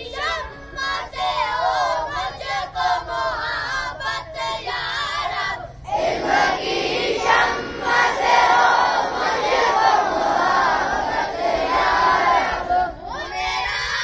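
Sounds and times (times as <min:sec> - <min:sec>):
boy reciting melodically: 0:00.0 - 0:14.0
group of boys chanting together: 0:00.0 - 0:14.0.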